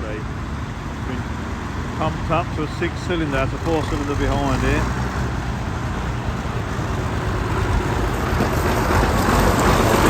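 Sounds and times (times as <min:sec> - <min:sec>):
old tractor engines running: 0:00.0 - 0:10.0.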